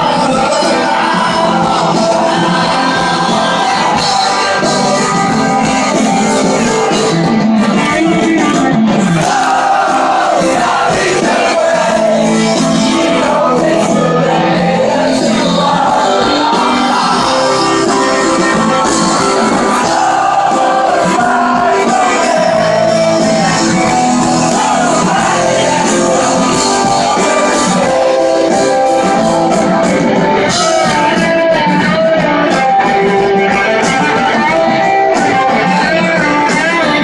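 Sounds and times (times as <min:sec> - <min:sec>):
electric guitars: 0:00.0 - 0:37.0
live rock band playing: 0:00.0 - 0:37.0
person singing: 0:00.0 - 0:37.0.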